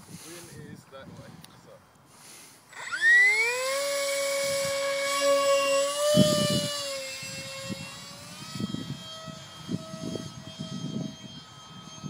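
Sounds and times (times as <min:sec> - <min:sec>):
electric motor propeller whine: 0:02.2 - 0:12.0.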